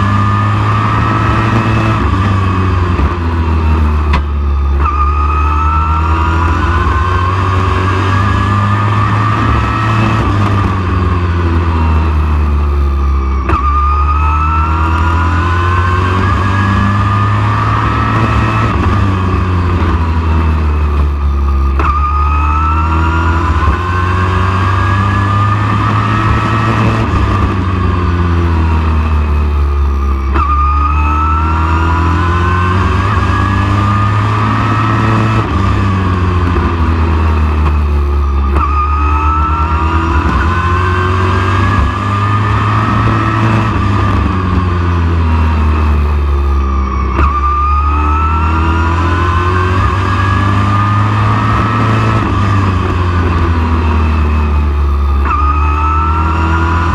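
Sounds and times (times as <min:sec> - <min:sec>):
race truck engine revving: 0:00.0 - 0:56.9.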